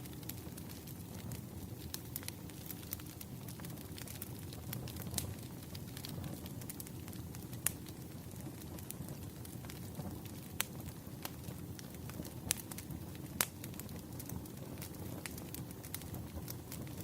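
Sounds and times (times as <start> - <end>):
fire crackles and pops: 0.0 - 17.0
fire low rumble: 0.0 - 17.0.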